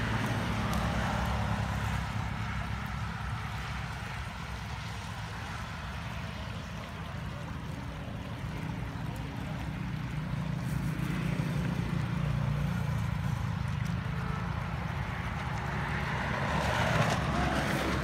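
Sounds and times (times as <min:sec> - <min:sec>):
floodwater rushing: 0:00.0 - 0:18.0
vehicle engine rumbling: 0:00.0 - 0:18.0.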